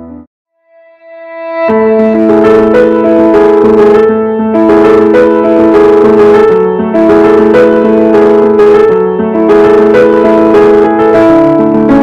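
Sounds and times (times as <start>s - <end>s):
background music with chords: 0.0s - 12.0s.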